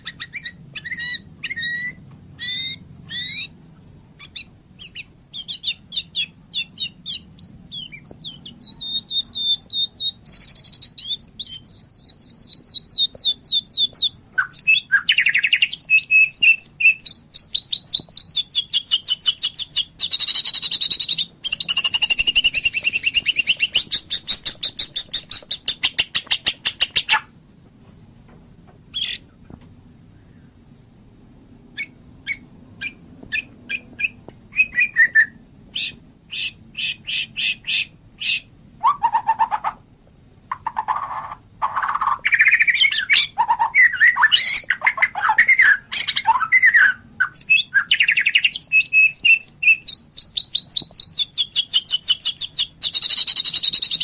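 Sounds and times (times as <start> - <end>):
bird singing whistled trills: 0.0 - 27.4, 31.8 - 39.6, 41.7 - 54.0.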